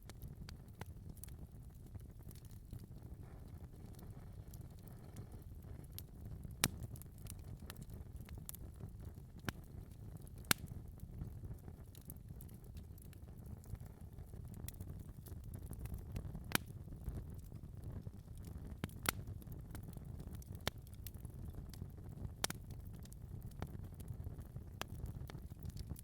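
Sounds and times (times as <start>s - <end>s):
fire crackling: 0.0s - 26.0s
fire snapping and popping: 0.0s - 26.0s
low rumble of flames: 0.0s - 26.0s.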